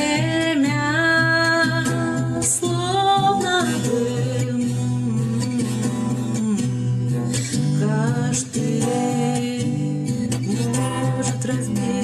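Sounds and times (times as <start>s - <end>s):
acoustic guitar: 0.0s - 12.0s
woman singing: 0.0s - 12.0s.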